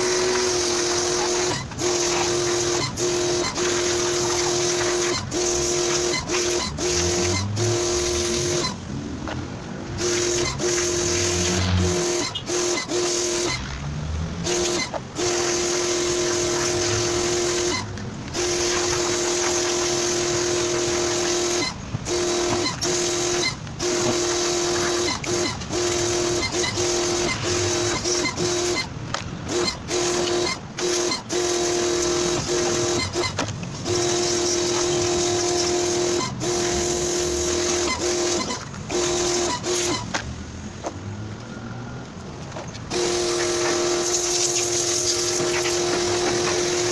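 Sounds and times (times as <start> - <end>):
pressure washer spraying: 0.0 - 8.8, 9.9 - 13.8, 14.4 - 40.2, 42.6 - 46.9.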